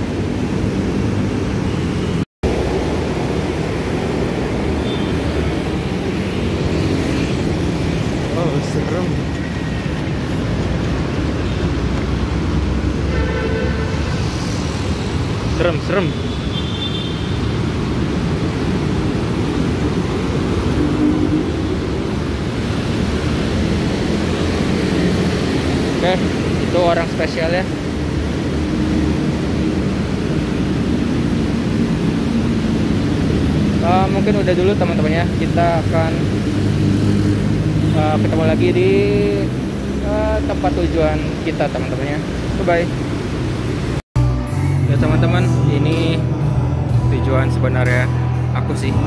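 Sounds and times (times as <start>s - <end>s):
road traffic rumble: 0.0s - 49.0s.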